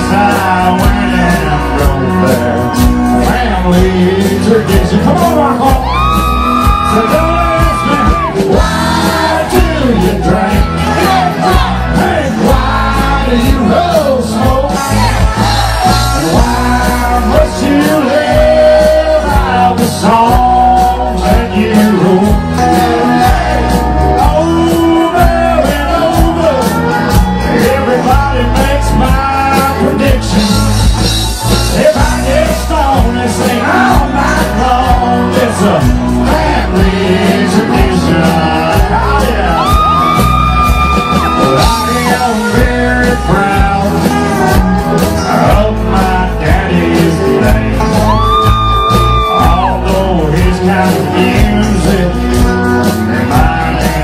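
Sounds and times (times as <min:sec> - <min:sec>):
person singing: 0:00.0 - 0:30.7, 0:31.7 - 0:54.0
bass guitar: 0:00.0 - 0:54.0
drums on a steady beat: 0:00.0 - 0:54.0
electric guitars: 0:00.0 - 0:54.0.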